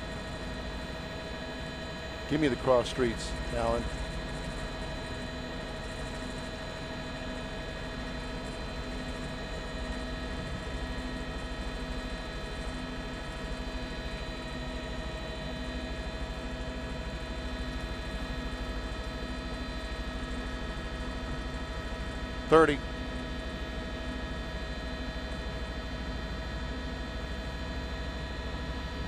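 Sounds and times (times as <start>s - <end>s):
helicopter turbine and rotor drone: 0.0s - 29.0s.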